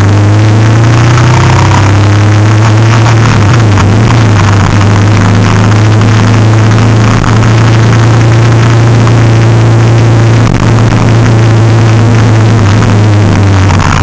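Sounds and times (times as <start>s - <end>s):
road and wind noise: 0.0s - 14.0s
vehicle engine humming: 0.0s - 14.0s.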